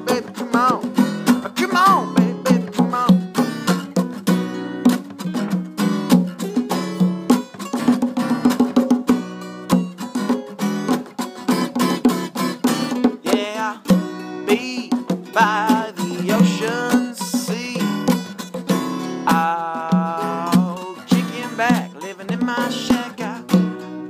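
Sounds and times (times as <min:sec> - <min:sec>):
acoustic guitars strummed and picked: 0:00.0 - 0:24.0.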